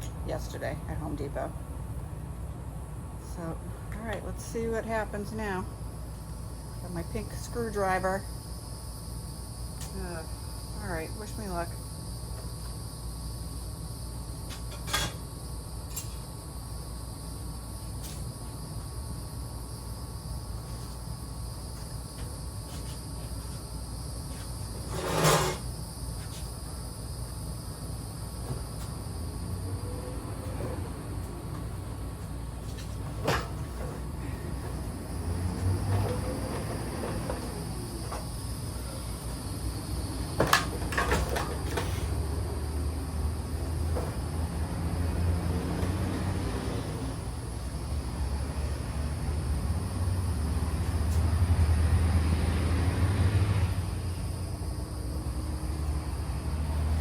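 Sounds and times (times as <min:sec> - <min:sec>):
steady low hum: 0:00.0 - 0:57.0
insects trilling: 0:05.8 - 0:57.0.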